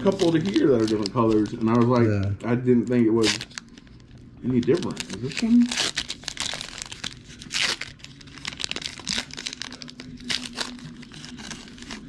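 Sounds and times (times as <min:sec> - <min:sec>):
foil wrapper tearing and crinkling: 0:00.0 - 0:02.0, 0:02.9 - 0:12.0.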